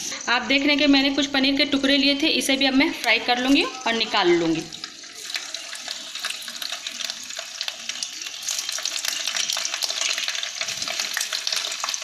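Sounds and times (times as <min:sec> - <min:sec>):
cheese sizzling in hot oil: 0:00.0 - 0:12.0.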